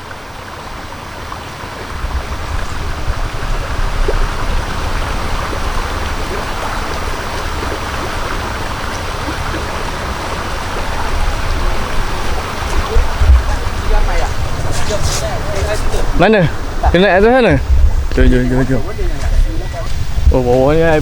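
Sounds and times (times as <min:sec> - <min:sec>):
stream rushing over rocks: 0:00.0 - 0:21.0
low rumble: 0:01.7 - 0:21.0.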